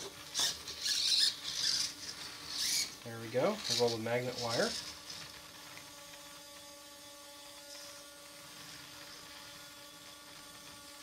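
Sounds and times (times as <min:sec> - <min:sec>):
servo motors humming: 0:00.0 - 0:11.0.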